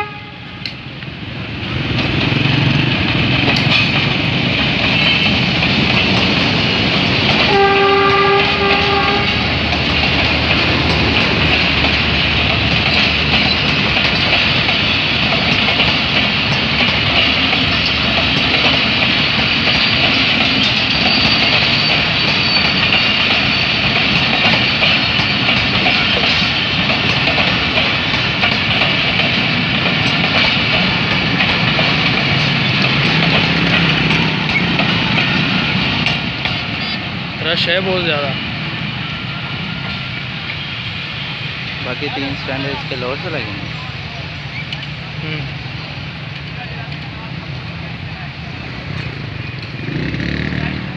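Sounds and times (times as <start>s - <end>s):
train wheels clattering on rails: 0.6s - 50.9s.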